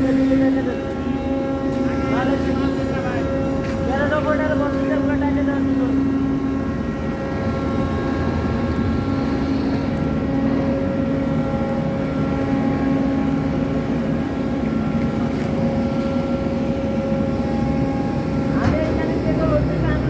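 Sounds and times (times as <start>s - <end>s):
ship machinery droning: 0.0s - 20.0s.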